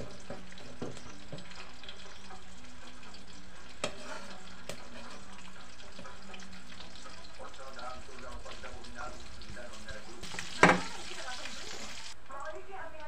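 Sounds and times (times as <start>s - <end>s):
fish sizzling in a wok: 0.0s - 12.2s
metal spatula scraping a pan: 0.0s - 12.2s.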